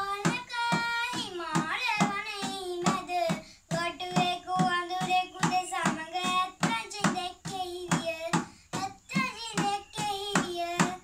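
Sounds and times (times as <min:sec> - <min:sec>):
child singing verses: 0:00.0 - 0:11.0.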